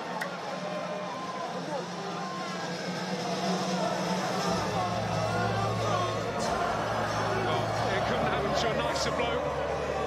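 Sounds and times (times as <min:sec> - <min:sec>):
stadium crowd cheering: 0:00.0 - 0:10.0.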